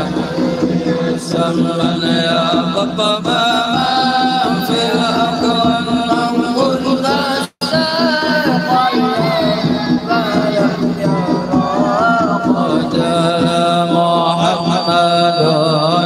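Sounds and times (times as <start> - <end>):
men chanting a devotional song: 0.0 - 16.0.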